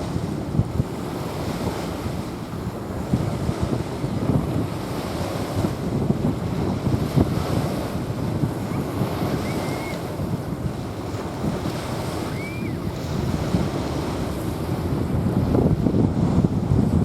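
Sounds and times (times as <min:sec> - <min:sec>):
small waves washing onto beach: 0:00.0 - 0:17.0
wind buffeting microphone: 0:00.0 - 0:17.0.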